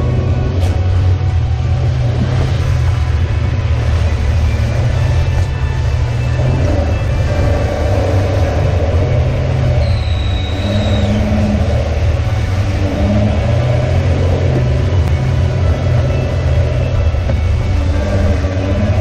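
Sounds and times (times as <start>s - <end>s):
off-road vehicle engine running: 0.0s - 19.0s.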